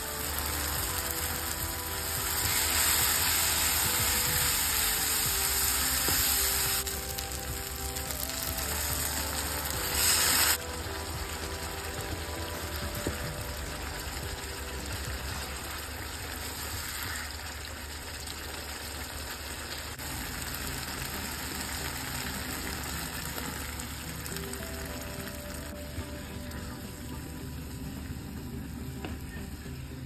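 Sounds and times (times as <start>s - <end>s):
background music: 0.0s - 16.5s, 21.1s - 30.0s
gravy sizzling in a pan: 0.0s - 30.0s.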